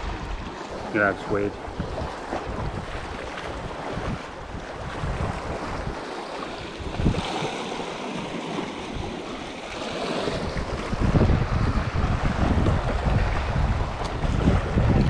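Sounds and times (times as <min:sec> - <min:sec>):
sea splashing against rocks: 0:00.0 - 0:15.0
wind buffeting microphone: 0:00.0 - 0:15.0.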